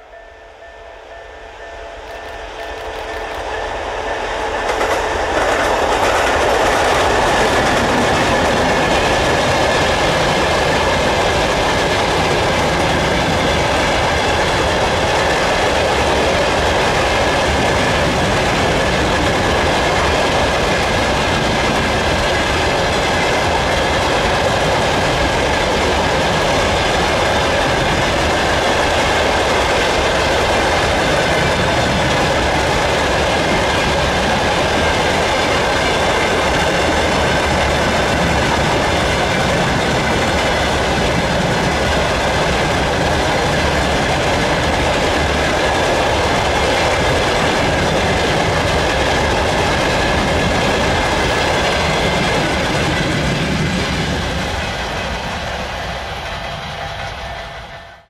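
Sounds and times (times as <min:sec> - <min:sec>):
freight train passing: 0:00.0 - 0:58.0
wheels clicking over rail joints: 0:04.6 - 0:53.7.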